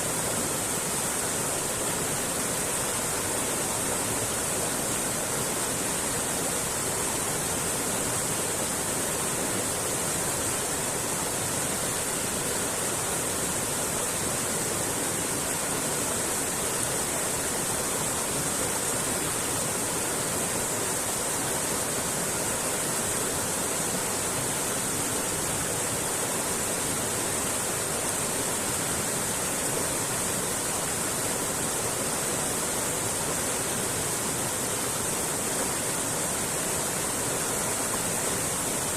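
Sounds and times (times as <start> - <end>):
creek flowing over rocks: 0.0 - 38.9.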